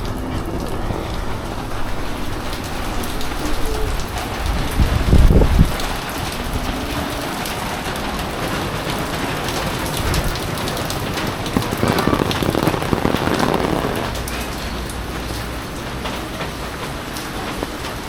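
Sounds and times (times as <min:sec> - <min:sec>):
heavy rain pattering: 0:00.0 - 0:18.0.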